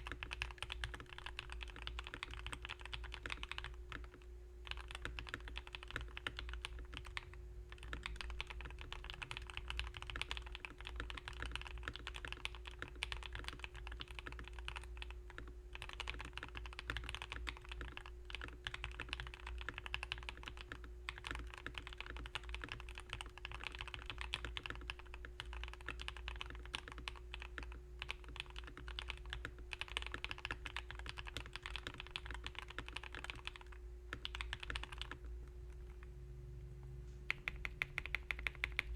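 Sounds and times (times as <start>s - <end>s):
fast typing on mechanical keyboard: 0.0s - 35.3s, 37.3s - 38.9s
steady low hum: 0.0s - 38.9s.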